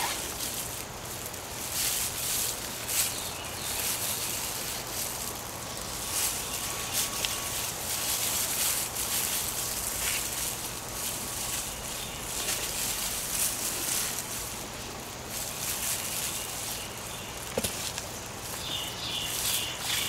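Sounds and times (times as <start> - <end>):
hands scraping through soil: 0.0 - 20.0.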